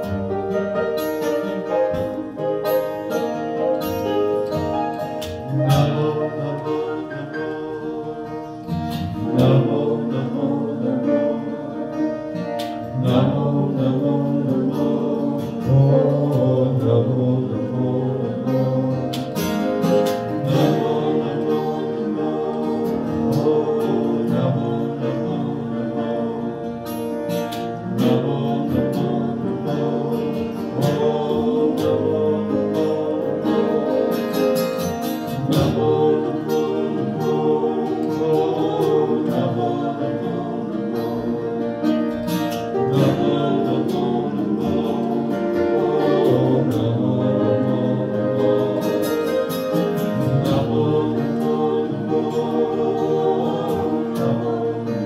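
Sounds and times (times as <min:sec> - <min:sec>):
keyboard: 0:00.0 - 0:55.0
strummed acoustic guitar: 0:00.0 - 0:55.0
voices singing devotional song: 0:04.4 - 0:55.0.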